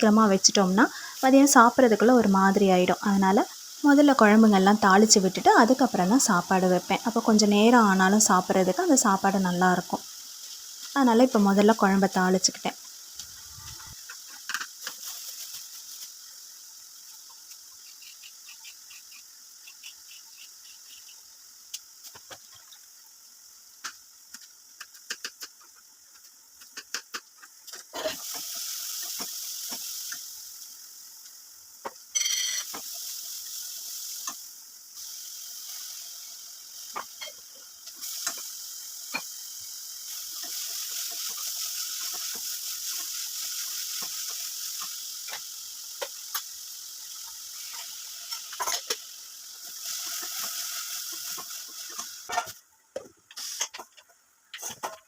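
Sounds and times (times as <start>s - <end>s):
sizzling in hot oil: 0.0s - 55.0s.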